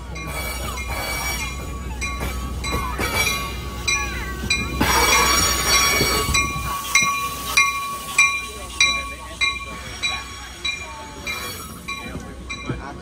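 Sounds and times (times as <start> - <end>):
crossing bell ringing: 0.0 - 13.0
train rolling past: 0.0 - 13.0
wheels and brakes squealing: 0.1 - 12.7.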